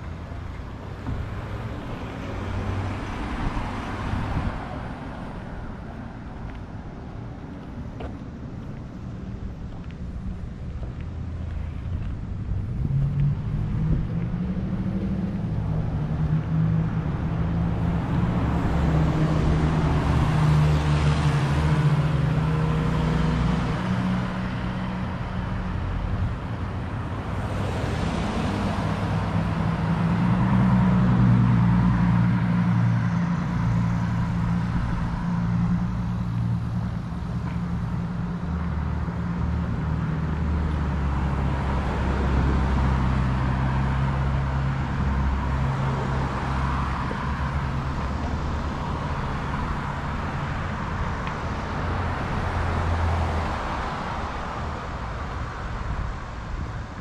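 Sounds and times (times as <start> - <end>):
cars passing: 0.0 - 57.0
engines humming: 0.0 - 57.0.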